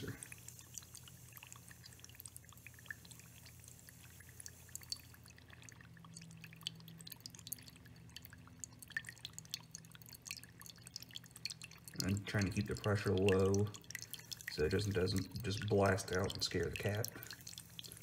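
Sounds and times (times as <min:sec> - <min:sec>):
small drips and splashes: 0:00.0 - 0:18.0
water trickling into bowl: 0:00.0 - 0:18.0.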